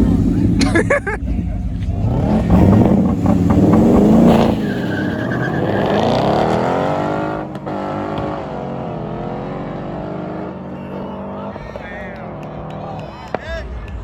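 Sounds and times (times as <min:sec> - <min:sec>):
car engine accelerating hard: 0:00.0 - 0:13.5.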